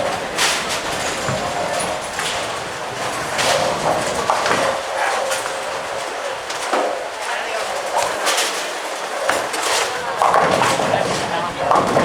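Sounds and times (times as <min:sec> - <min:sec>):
bowling balls rolling: 0:00.0 - 0:12.0.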